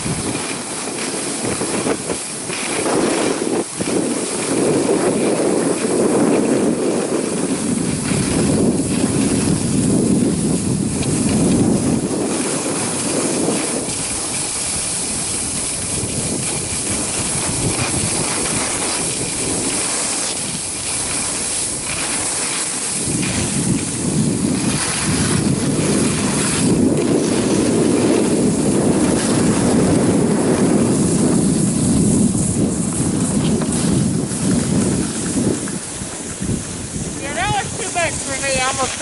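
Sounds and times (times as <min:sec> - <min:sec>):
skis sliding over snow: 0:00.0 - 0:39.0
wind on microphone: 0:00.0 - 0:39.0.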